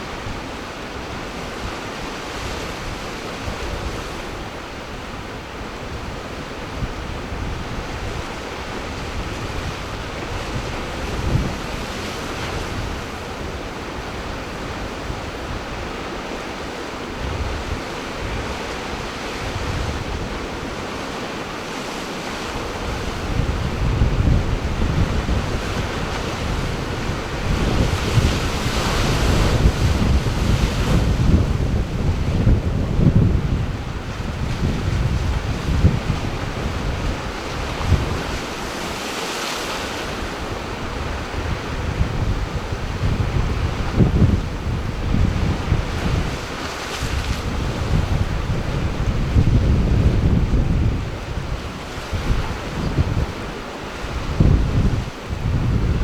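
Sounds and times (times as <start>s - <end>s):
ocean surf washing ashore: 0.0s - 56.0s
wind buffeting microphone: 0.0s - 56.0s.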